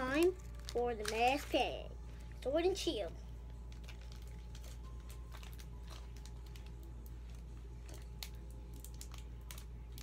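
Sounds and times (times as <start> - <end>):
foil wrapper crinkling: 0.0 - 2.4, 3.4 - 10.0
steady low hum: 0.0 - 10.0.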